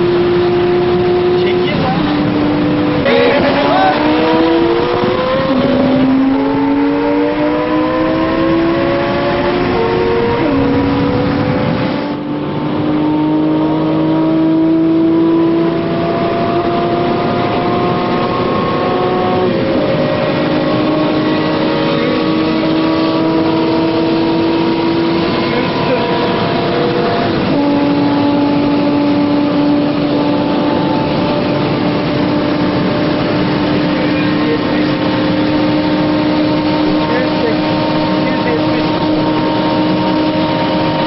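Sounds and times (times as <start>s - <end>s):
car engine at full throttle: 0.0s - 41.0s.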